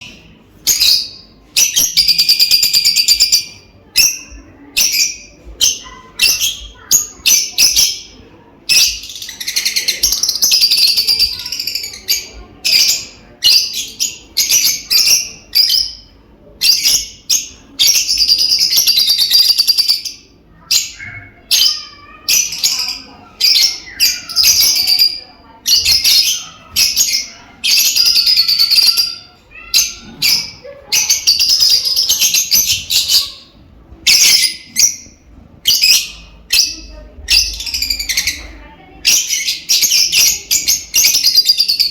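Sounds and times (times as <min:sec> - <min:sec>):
lovebirds chirping and chattering: 0:00.0 - 0:41.9.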